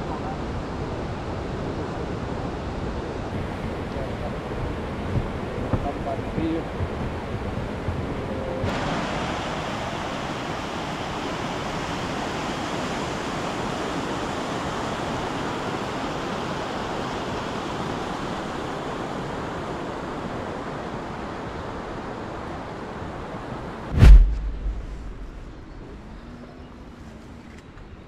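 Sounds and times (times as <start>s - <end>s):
rushing water: 3.3s - 26.2s.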